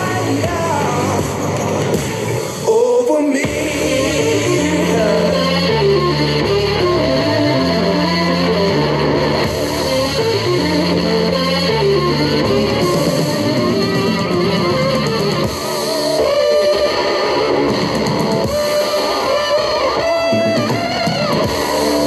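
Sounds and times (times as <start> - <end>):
electric guitar music: 0.0 - 2.7, 3.5 - 22.0.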